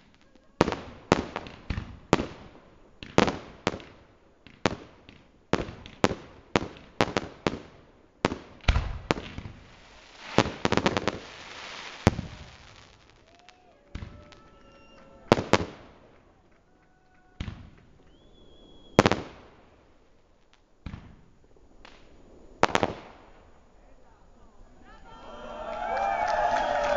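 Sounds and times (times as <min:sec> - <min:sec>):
fireworks crackling: 0:00.0 - 0:26.9.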